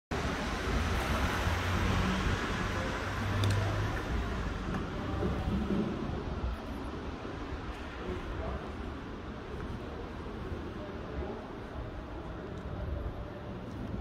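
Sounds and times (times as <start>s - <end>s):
traffic noise: 0.1s - 14.0s.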